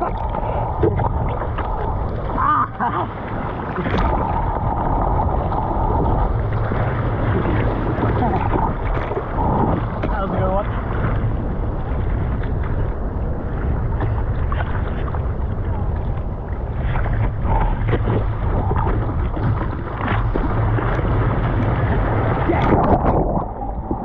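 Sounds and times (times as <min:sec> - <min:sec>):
ocean surf splashing: 0:00.0 - 0:24.0
wind buffeting microphone: 0:00.0 - 0:24.0.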